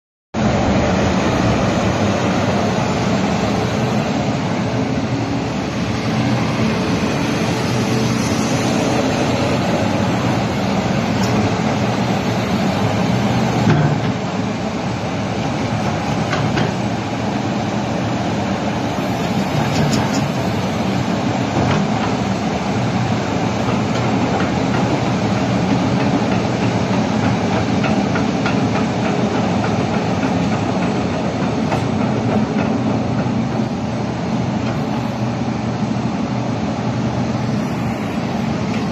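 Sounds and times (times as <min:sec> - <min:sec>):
excavator engine running: 0:00.4 - 0:38.9.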